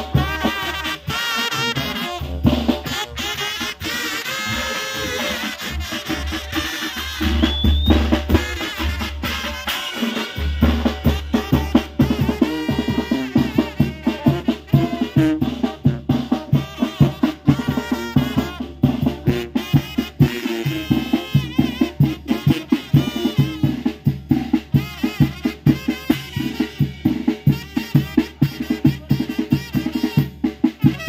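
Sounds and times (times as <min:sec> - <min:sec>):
bass drum and cymbal beating: 0:00.0 - 0:31.0
brass band playing: 0:00.0 - 0:31.0.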